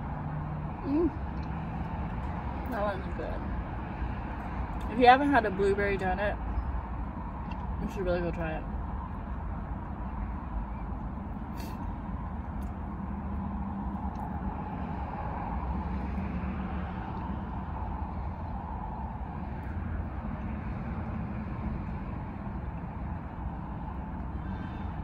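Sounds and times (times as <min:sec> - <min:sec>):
vehicle rumble inside car: 0:00.0 - 0:25.0.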